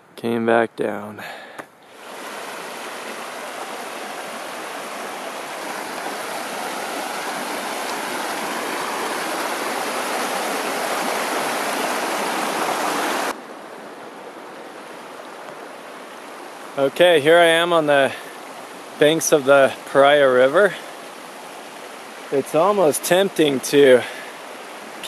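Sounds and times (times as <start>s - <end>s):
river rushing over rocks: 1.9s - 25.0s.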